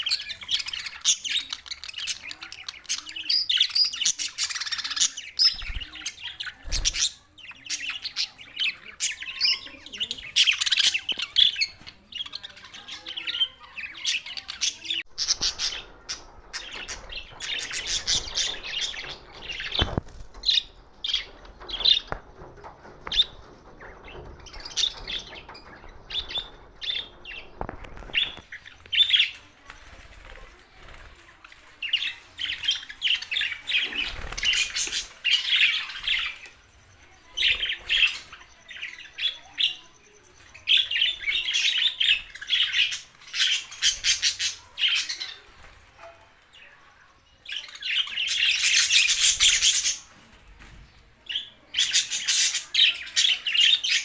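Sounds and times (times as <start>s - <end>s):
budgerigars chirping and warbling: 0.0s - 46.7s, 47.3s - 50.2s, 51.2s - 54.0s.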